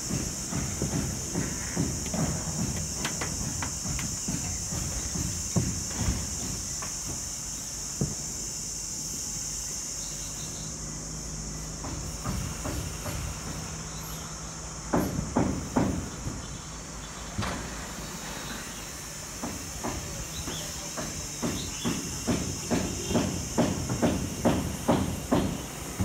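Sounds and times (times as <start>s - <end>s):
knocks on corrugated metal roof: 0.0s - 8.6s, 11.7s - 14.0s, 14.8s - 16.6s, 17.3s - 26.0s
steady high-pitched hiss: 0.0s - 26.0s.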